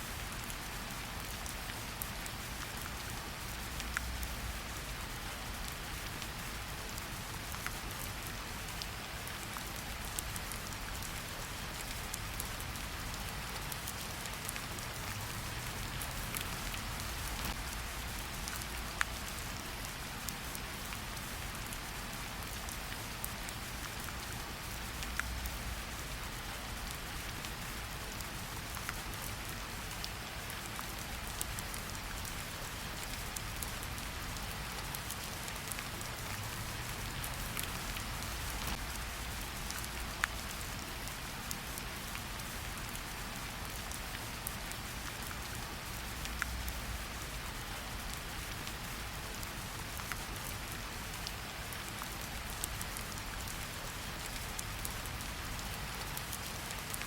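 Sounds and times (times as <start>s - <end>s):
rain hiss in forest: 0.0s - 57.0s.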